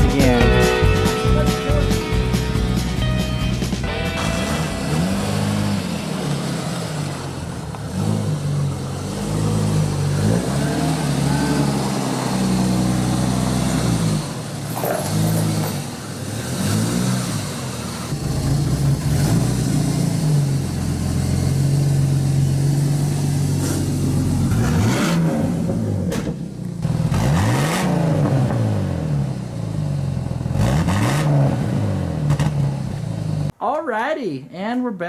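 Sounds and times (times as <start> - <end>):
vehicle engine revving: 0.0 - 33.5.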